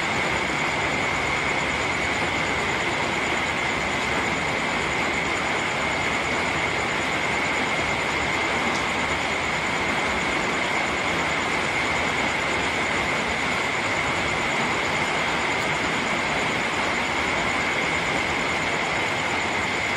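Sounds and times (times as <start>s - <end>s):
steady rain: 0.0s - 19.9s.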